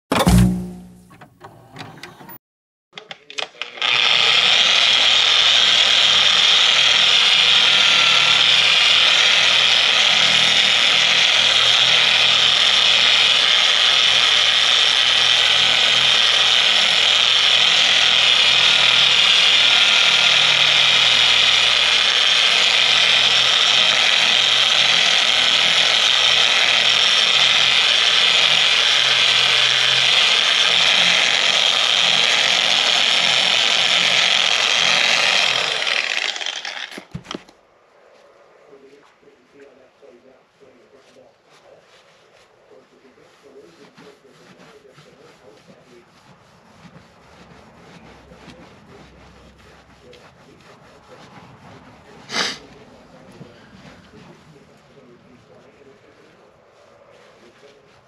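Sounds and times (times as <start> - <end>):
orbital polisher buffing metal: 3.5 - 37.4, 41.0 - 58.0.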